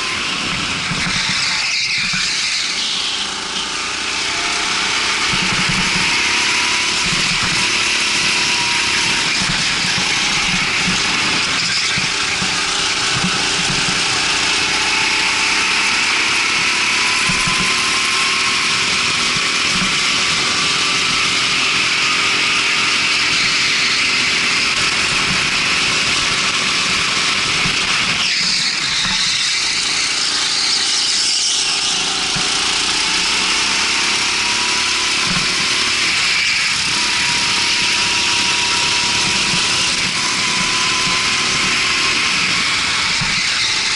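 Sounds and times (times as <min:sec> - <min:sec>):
go-kart engine revving: 0:00.0 - 0:43.9.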